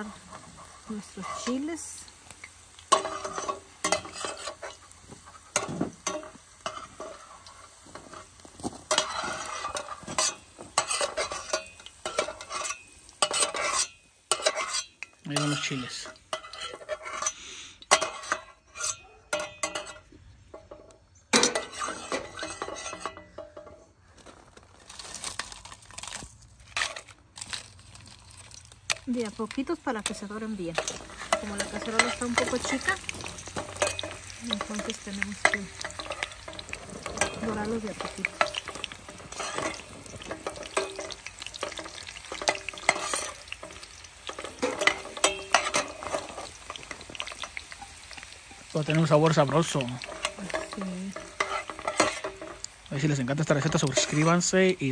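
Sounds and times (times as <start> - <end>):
utensil scraping a pot: 0.0 - 2.0, 2.9 - 20.1, 21.4 - 23.8, 28.0 - 54.9
chiles sizzling in oil: 0.0 - 54.9
metal utensil clanking on a pot: 0.1 - 23.9, 28.8 - 54.9.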